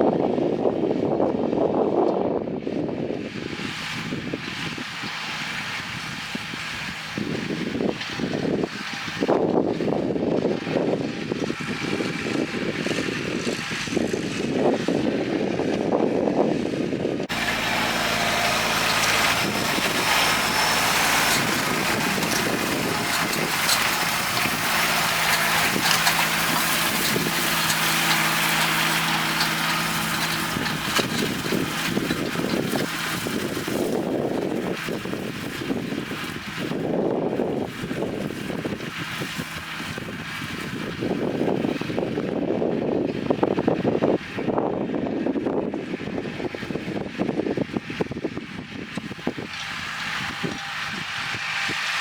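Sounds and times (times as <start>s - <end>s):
tractor diesel engine: 3.5s - 44.4s, 46.2s - 52.0s.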